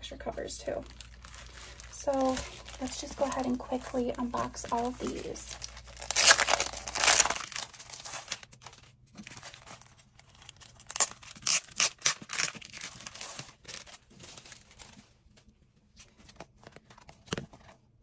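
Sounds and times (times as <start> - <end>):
plastic packaging crinkling: 0.2 - 15.2.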